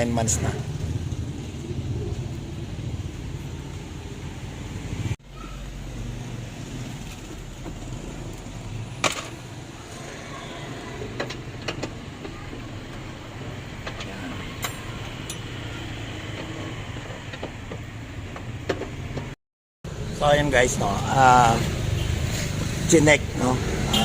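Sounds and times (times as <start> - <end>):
car engine rumbling: 0.0 - 10.0, 10.7 - 24.0.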